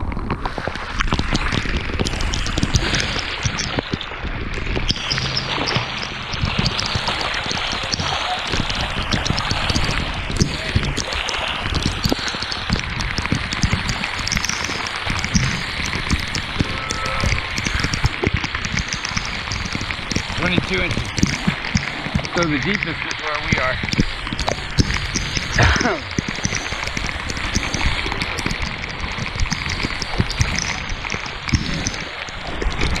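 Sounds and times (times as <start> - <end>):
heavy rain pouring onto water: 0.0 - 33.0
raindrops tapping close by: 0.0 - 33.0.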